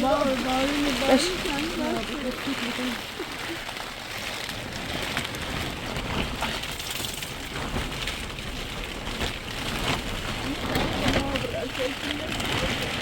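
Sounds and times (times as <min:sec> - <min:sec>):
rain patter: 0:00.0 - 0:13.0.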